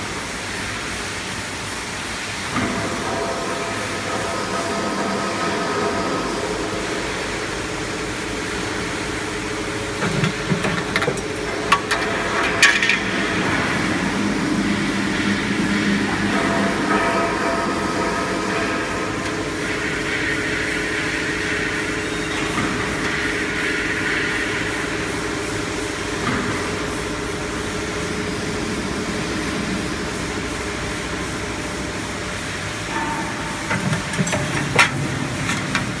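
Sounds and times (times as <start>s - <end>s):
roll forming machine humming: 0.1s - 36.0s.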